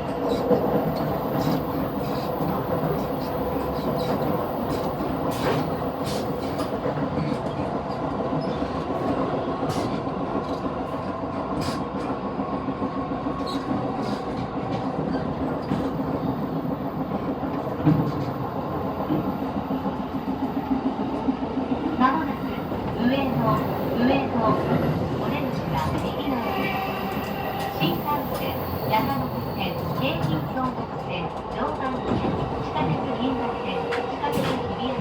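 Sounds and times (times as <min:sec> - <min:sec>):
train wheel and rail rumble: 0:00.0 - 0:35.0.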